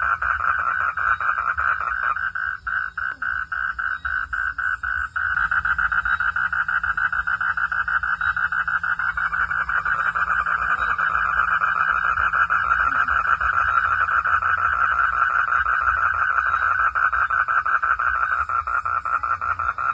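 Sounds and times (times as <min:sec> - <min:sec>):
frogs calling: 0:00.0 - 0:19.9.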